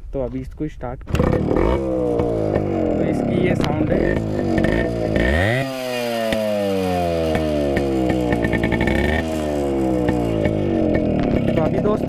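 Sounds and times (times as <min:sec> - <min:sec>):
exhaust pops: 0:01.0 - 0:12.0
two-stroke engine revving: 0:01.1 - 0:12.0.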